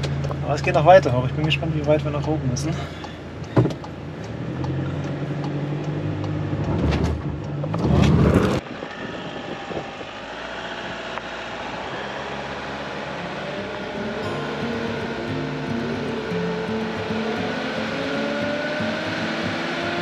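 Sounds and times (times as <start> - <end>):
diesel engine pulling uphill: 0.0 - 20.0
wind and tyre noise: 0.0 - 20.0.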